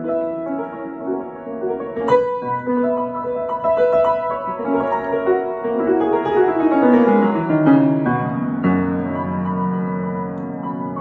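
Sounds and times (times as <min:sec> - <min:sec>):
upright piano improvisation: 0:00.0 - 0:11.0.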